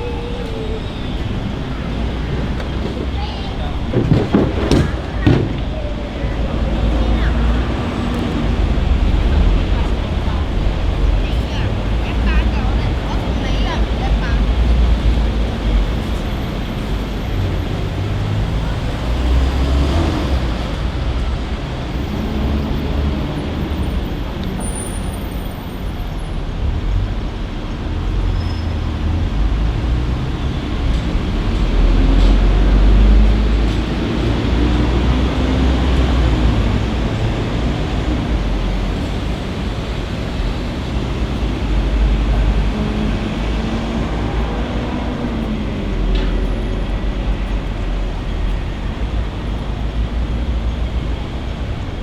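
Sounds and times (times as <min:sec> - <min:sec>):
heavy vehicle passing: 0:00.0 - 0:25.7, 0:26.4 - 0:52.0
road traffic rumble: 0:00.0 - 0:52.0.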